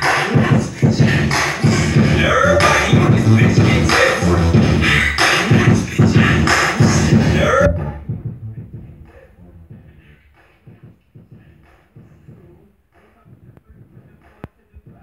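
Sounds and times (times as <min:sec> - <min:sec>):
dance music with vocals: 0:00.0 - 0:15.0.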